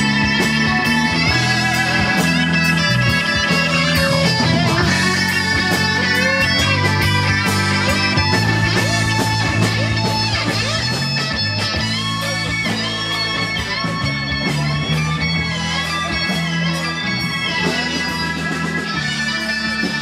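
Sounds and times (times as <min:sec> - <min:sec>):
bass guitar: 0:00.0 - 0:20.0
drums: 0:00.0 - 0:20.0
electric guitar lead: 0:00.0 - 0:20.0.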